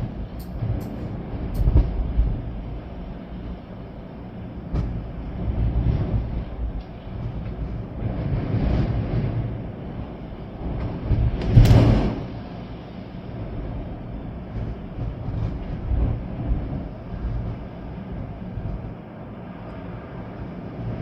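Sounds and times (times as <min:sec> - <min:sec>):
storm wind and rain: 0:00.0 - 0:21.0.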